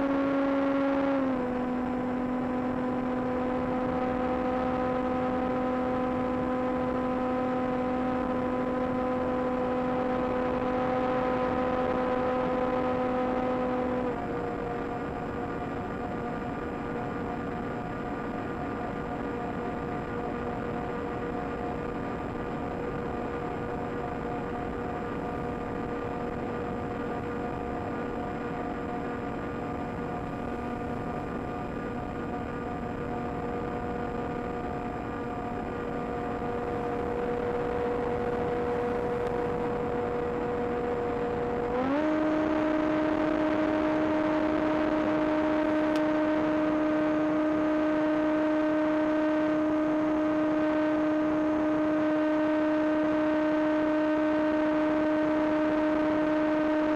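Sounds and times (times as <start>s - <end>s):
electric motor and propeller whine: 0.0s - 56.9s.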